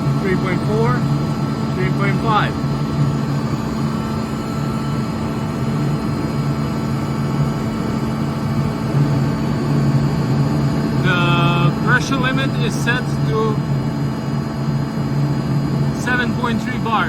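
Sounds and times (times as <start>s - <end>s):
air compressor hum and whine: 0.0s - 17.0s.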